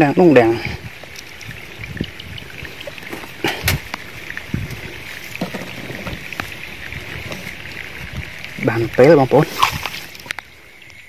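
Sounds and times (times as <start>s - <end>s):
steady high hiss: 0.0s - 11.0s
clicks and rustling in grass: 0.9s - 11.0s.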